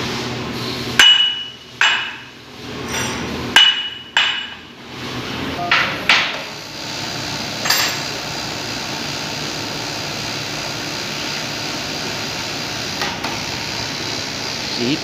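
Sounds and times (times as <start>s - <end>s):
workshop hum and hiss: 0.0s - 15.0s.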